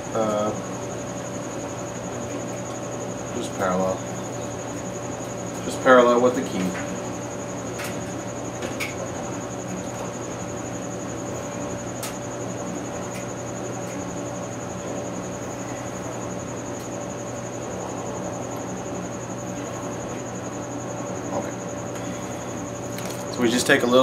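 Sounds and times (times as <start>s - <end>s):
low electrical hum and hiss: 0.0s - 24.0s.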